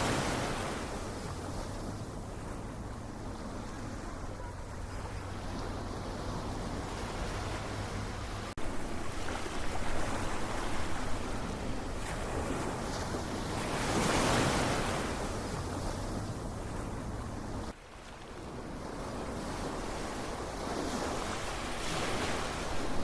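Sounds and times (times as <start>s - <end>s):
ocean waves washing in: 0.0s - 23.0s.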